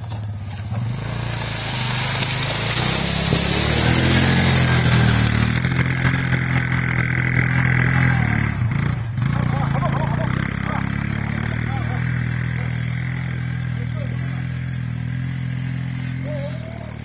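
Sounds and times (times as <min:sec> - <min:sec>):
quad engine revving hard: 0:00.6 - 0:17.0.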